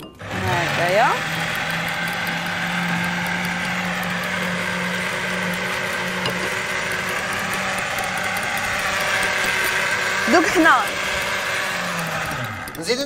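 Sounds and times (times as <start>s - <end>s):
blender running: 0.0s - 13.0s.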